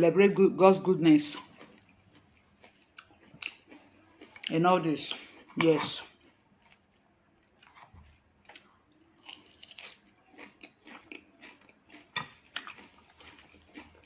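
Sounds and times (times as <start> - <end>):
chewing salad crunches: 1.2 - 14.0.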